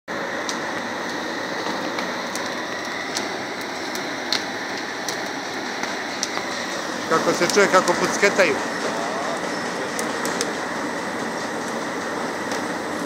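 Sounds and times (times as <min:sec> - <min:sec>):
roaster drum rushing noise: 0:00.1 - 0:13.0.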